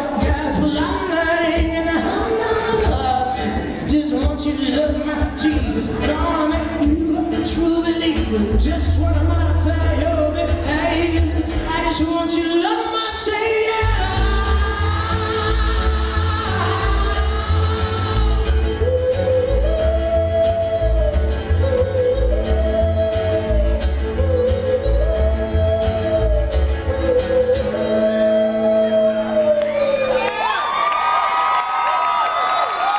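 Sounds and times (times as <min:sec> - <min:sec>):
person singing wordlessly: 0:00.0 - 0:30.2.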